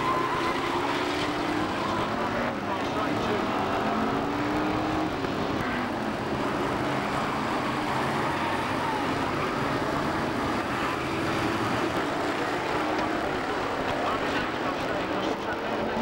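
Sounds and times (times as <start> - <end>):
race car engines: 0.0 - 16.0.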